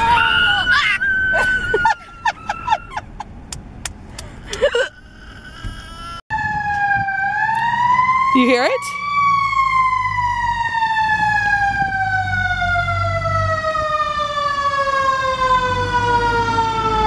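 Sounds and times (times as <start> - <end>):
siren winding down: 0.0 - 3.1, 4.6 - 17.0.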